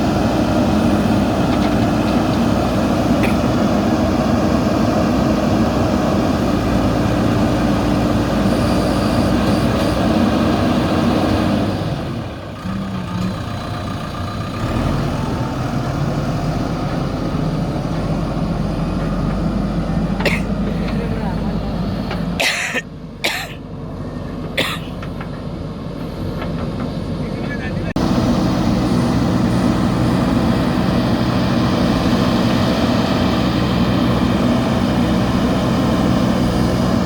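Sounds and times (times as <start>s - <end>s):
backhoe diesel engine running: 0.0s - 37.0s.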